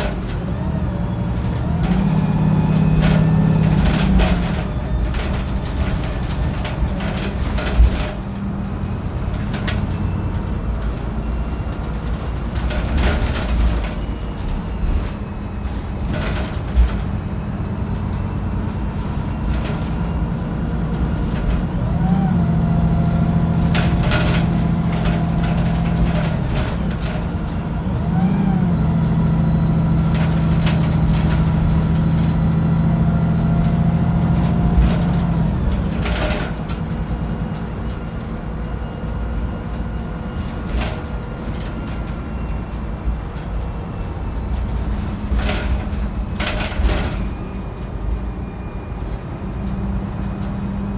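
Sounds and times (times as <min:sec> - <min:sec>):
bus body clicks and rattles: 0:00.0 - 0:50.9
bus diesel engine: 0:00.0 - 0:50.9
faint engine whine: 0:00.0 - 0:50.9.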